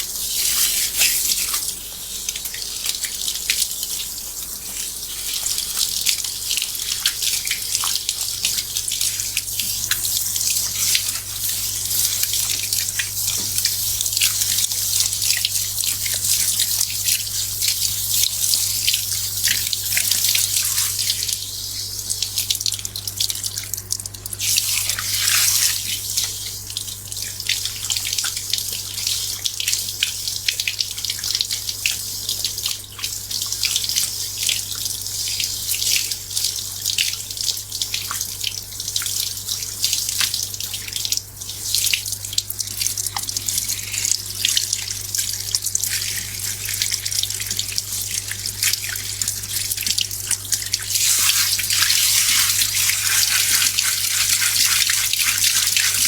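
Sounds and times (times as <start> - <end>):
water running and splashing: 0.0 - 56.0.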